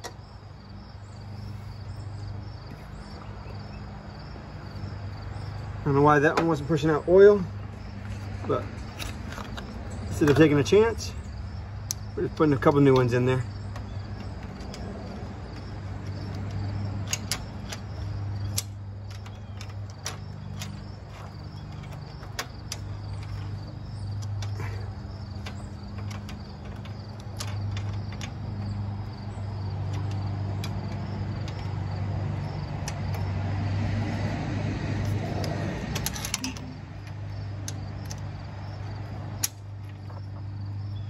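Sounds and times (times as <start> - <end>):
faint insect chirping: 0.0 - 34.3, 35.0 - 41.0.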